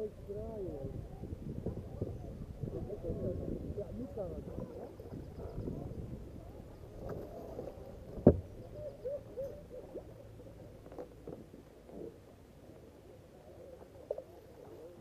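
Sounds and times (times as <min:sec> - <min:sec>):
water gurgling around kayak: 0:00.0 - 0:15.0.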